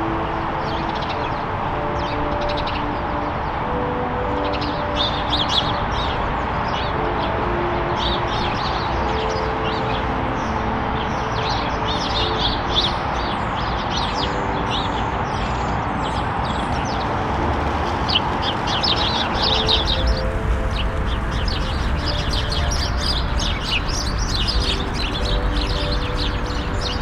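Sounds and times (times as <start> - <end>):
sparrows chirping: 0.0 - 3.2, 3.8 - 27.0
soft background music: 0.0 - 27.0.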